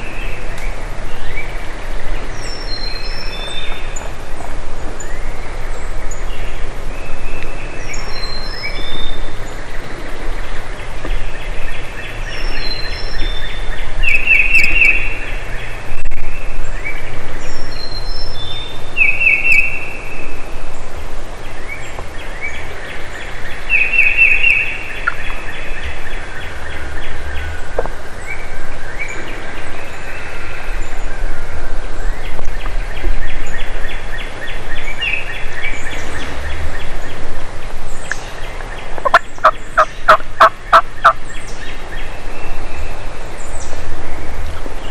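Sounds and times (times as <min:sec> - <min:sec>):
songbirds singing with trill: 0:00.0 - 0:44.9.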